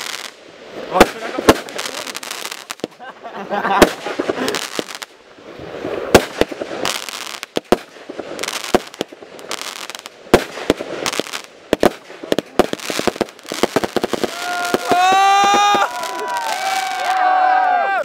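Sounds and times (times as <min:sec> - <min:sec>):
fireworks bangs and crackles: 0:00.0 - 0:17.2.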